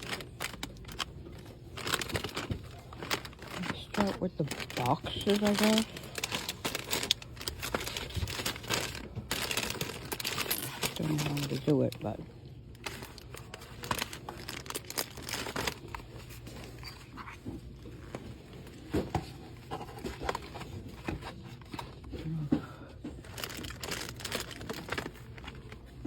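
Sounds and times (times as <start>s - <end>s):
wrapping crinkling and rustling: 0.0s - 26.0s.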